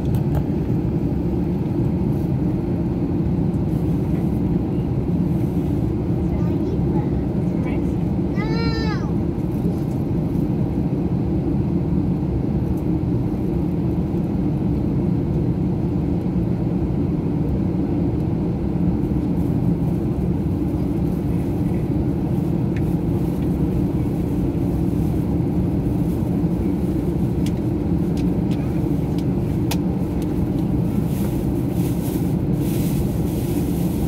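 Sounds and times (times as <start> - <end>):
jet engines rumbling in cabin: 0.0 - 34.0.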